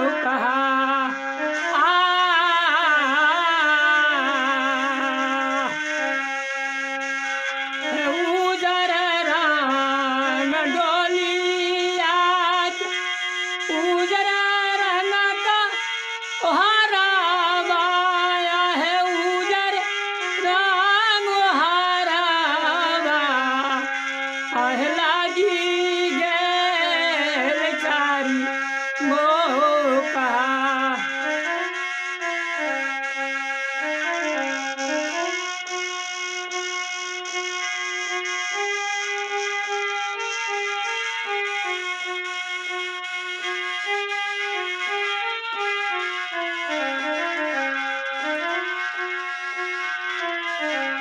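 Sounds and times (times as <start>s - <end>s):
folk melody over a drone: 0.0s - 51.0s.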